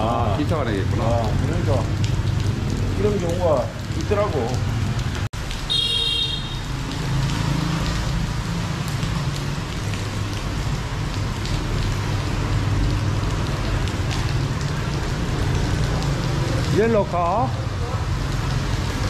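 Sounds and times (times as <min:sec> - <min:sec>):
rain falling on a street: 0:00.0 - 0:19.0
traffic on a wet road: 0:00.0 - 0:19.0.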